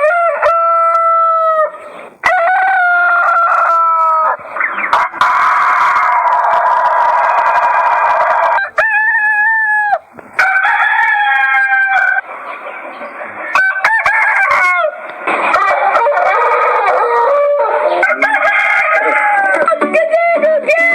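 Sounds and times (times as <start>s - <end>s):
roosters crowing: 0.0s - 20.9s.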